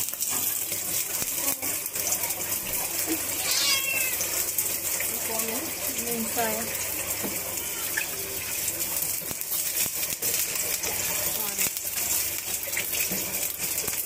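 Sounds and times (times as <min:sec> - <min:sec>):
crackles and pops of frying: 0:00.0 - 0:14.0
sausage sizzling in hot oil: 0:00.0 - 0:14.0.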